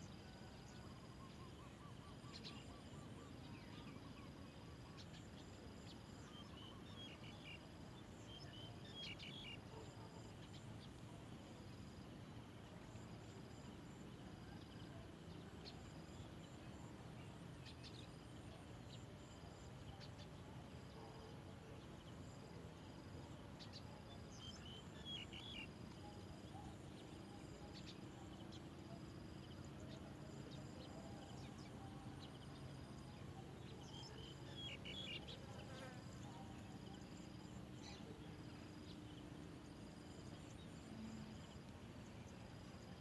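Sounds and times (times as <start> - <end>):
low background hiss: 0.0 - 43.0.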